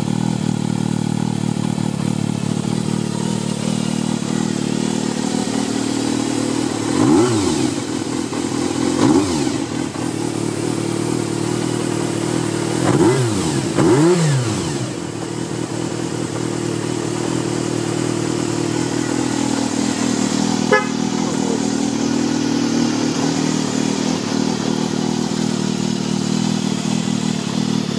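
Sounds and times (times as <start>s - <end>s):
motorcycle engine idling and revving: 0.0s - 27.9s.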